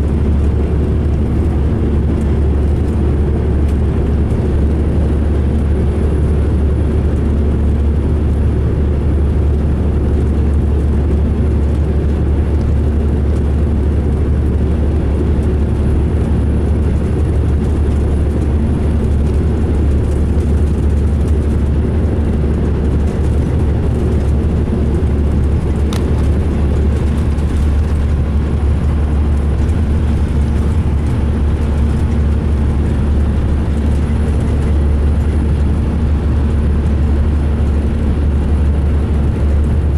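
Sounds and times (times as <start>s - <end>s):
deep diesel engine drone: 0.0s - 39.9s.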